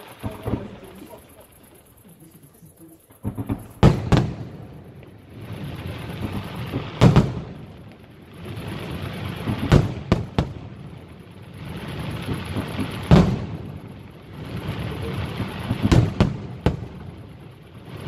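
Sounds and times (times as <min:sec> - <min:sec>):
firework shells booming: 0:00.0 - 0:18.0
hiss of burning firework stars: 0:00.0 - 0:18.0.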